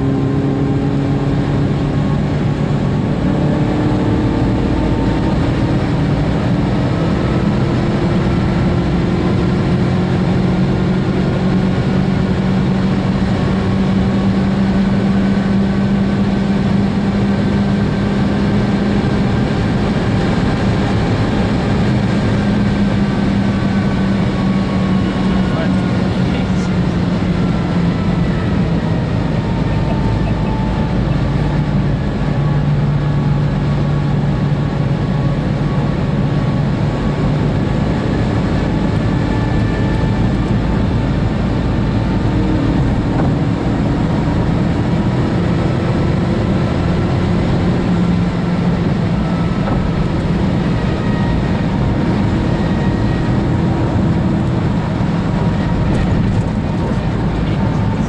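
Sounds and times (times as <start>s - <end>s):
car engine drone: 0.0s - 58.0s
wind and tyre noise: 0.0s - 58.0s.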